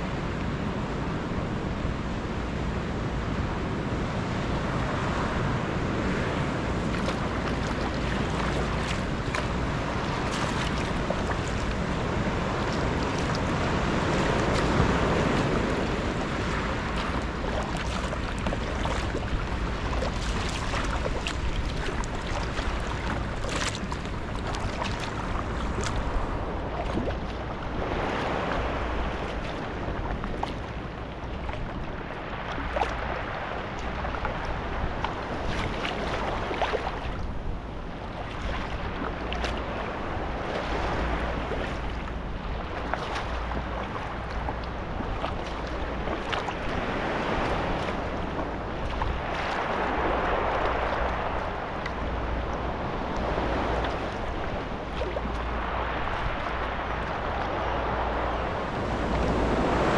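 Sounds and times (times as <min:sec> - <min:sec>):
water lapping along hull: 0:00.0 - 0:59.9
wind rumbling on microphone: 0:00.0 - 0:59.9
paddle strokes splashing: 0:05.1 - 0:59.9.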